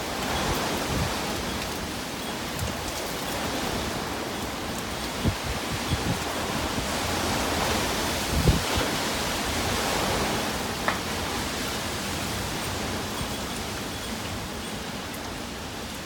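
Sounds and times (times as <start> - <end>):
wind and heavy rain: 0.0 - 16.0.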